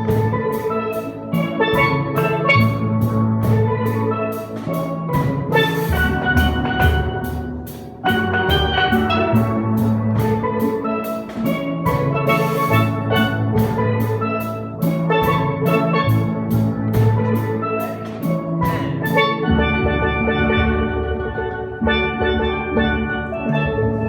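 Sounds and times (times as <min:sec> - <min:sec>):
steel pans playing a tune: 0:00.0 - 0:24.0.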